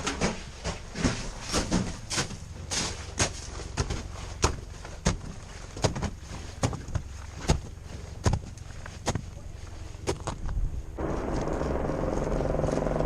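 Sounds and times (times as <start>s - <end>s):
footsteps crunching on ice: 0.1s - 13.0s.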